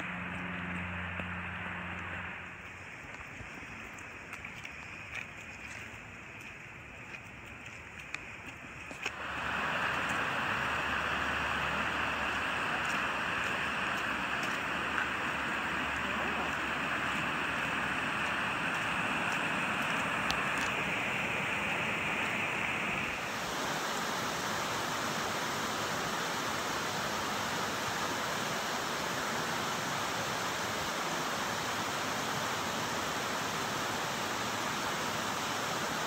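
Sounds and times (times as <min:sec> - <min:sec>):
creek rushing over boulders: 0:00.0 - 0:36.0.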